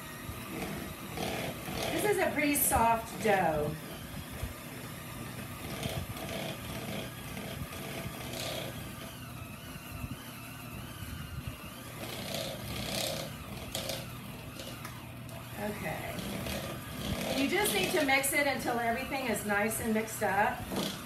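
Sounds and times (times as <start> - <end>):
beaters scraping bowl: 0.0 - 21.0
electric hand mixer running: 0.0 - 21.0.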